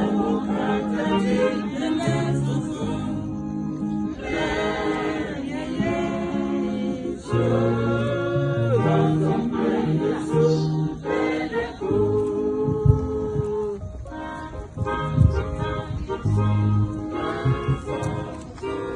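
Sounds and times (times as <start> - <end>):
choir singing: 0.0 - 18.9.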